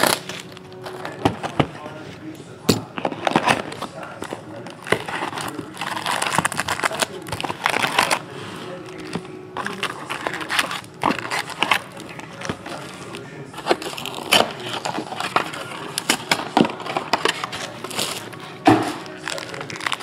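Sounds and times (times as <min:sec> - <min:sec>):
foil packs crinkling: 0:00.0 - 0:20.0.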